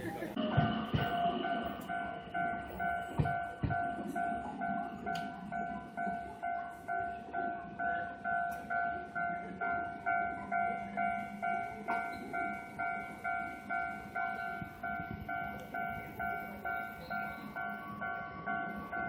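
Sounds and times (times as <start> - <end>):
level-crossing alarm dinging: 0.0 - 19.0.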